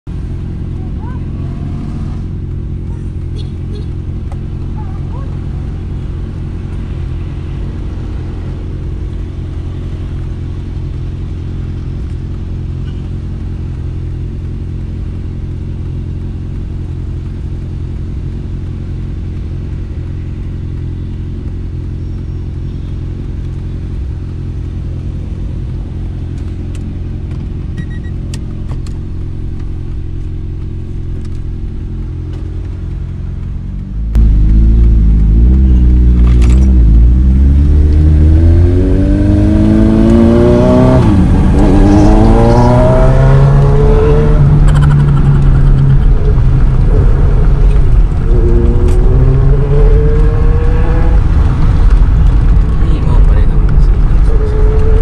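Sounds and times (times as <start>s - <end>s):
car engine idling and accelerating: 0.0s - 55.0s.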